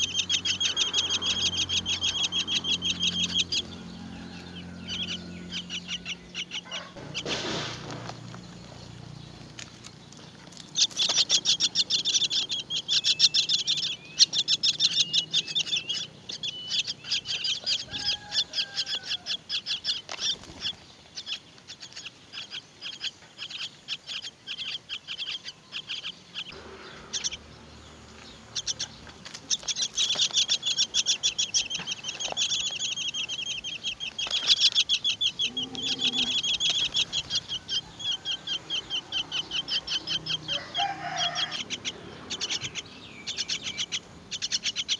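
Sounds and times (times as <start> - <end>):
nestlings rasping chirps: 0.0 - 44.9.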